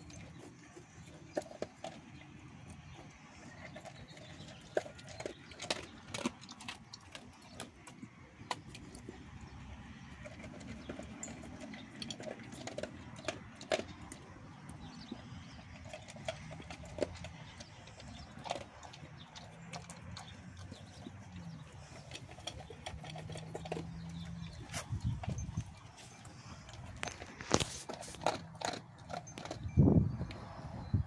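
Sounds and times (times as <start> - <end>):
kibble clinking on metal bowl: 0.0 - 30.4
dog crunching dry kibble: 0.0 - 30.8.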